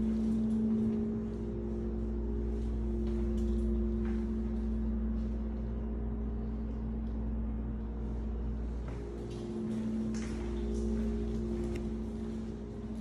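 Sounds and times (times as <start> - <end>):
low rumble: 0.0 - 13.0
steady low hum: 0.0 - 13.0.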